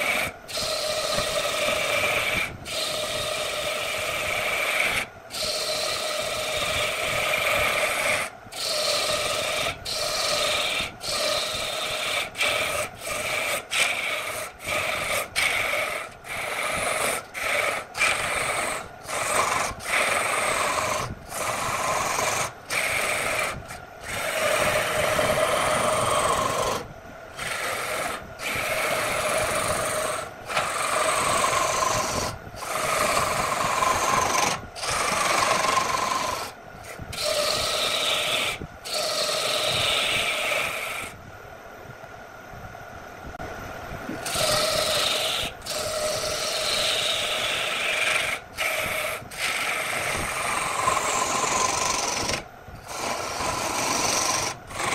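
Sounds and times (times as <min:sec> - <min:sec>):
gouge scraping spinning wood: 0:00.0 - 0:41.2, 0:44.1 - 0:54.9.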